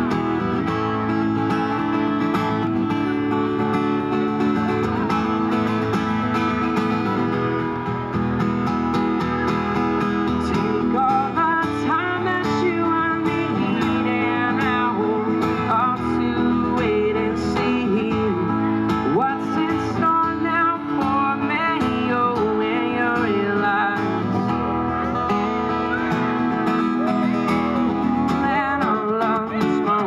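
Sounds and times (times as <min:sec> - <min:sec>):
strummed acoustic guitar music: 0:00.0 - 0:30.0.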